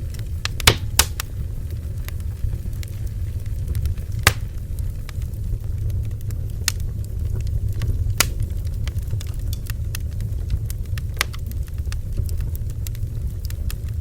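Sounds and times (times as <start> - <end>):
bonfire rumble: 0.0 - 14.0
wood crackling and popping: 0.0 - 14.0.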